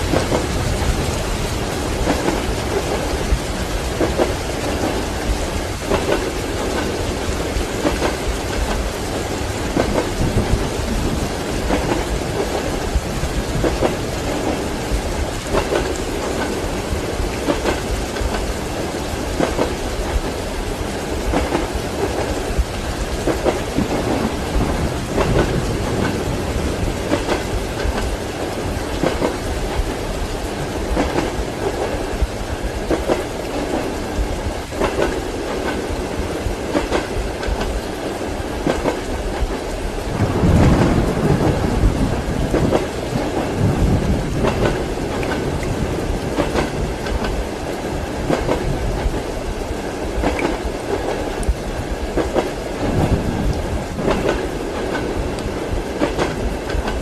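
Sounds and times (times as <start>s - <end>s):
steady rain: 0.0s - 57.0s
train wheels clacking on rails: 0.0s - 57.0s.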